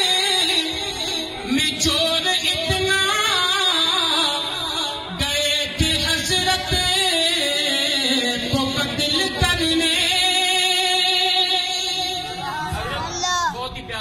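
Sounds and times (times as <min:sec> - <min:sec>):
man singing unaccompanied: 0:00.0 - 0:12.5.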